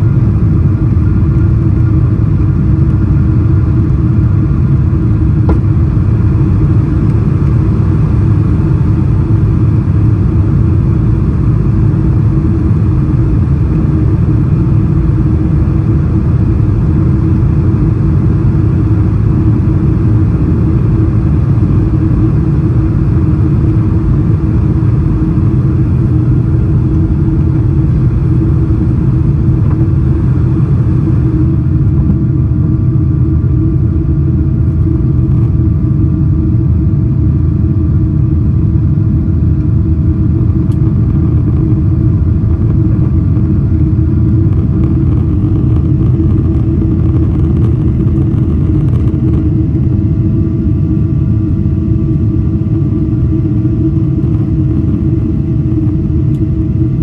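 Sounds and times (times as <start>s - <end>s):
jet engine rumble: 0.0s - 57.0s
steady cabin hum: 0.0s - 57.0s.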